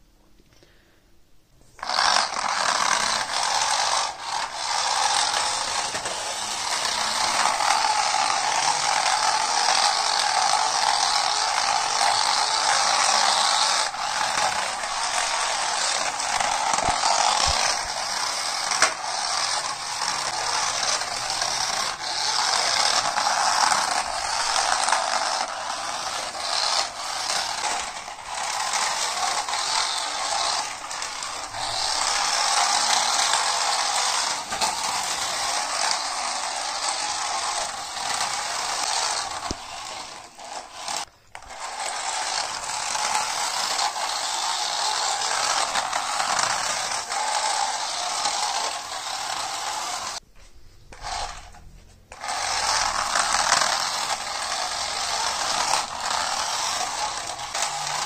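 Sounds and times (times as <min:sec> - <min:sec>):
toy car motor whirring: 0:01.6 - 0:50.2, 0:50.9 - 0:58.0.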